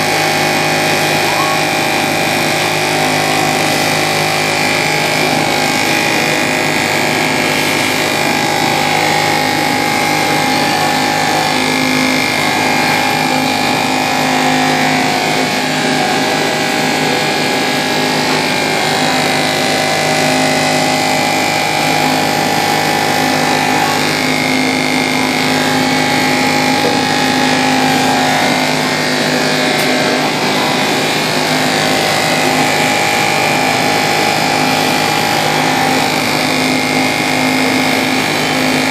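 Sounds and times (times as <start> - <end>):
water pump humming: 0.0 - 38.9.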